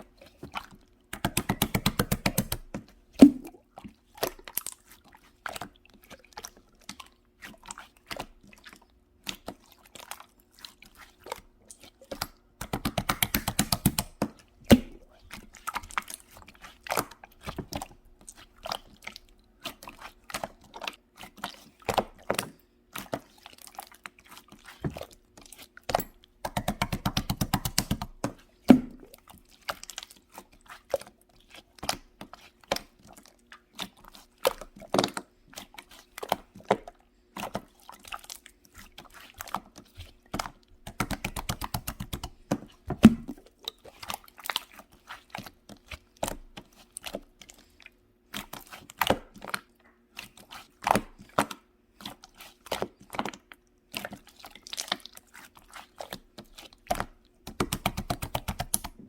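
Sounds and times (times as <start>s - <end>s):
rapid slime crackling: 0.5s - 5.7s, 9.3s - 47.6s, 48.3s - 59.0s.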